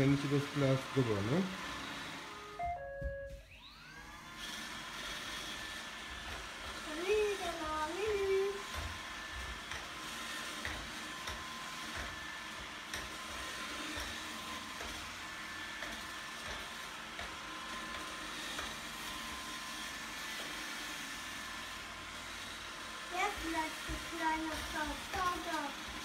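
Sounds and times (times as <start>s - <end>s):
robot vacuum whirring: 0.0s - 26.0s.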